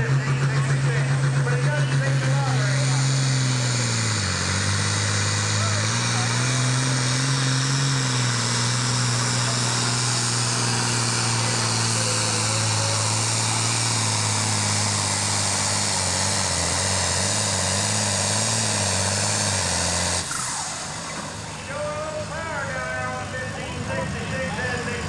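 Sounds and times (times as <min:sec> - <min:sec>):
diesel engine at full throttle: 0:00.0 - 0:25.0.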